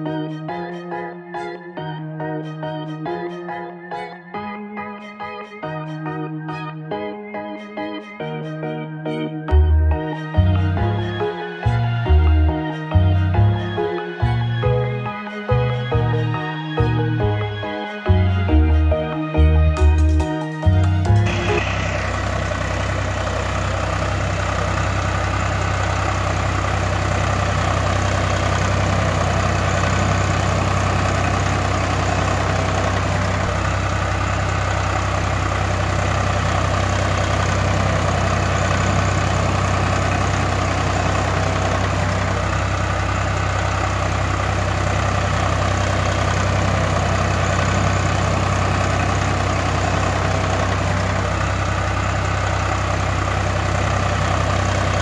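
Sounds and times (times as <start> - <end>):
diesel engine idling: 9.5 - 55.0.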